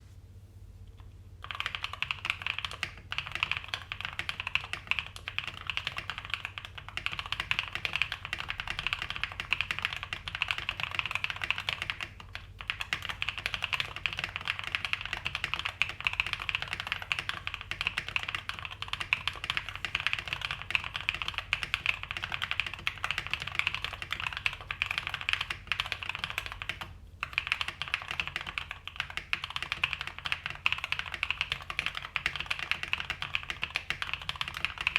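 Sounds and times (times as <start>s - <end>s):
mechanical keyboard typing: 1.4s - 34.9s.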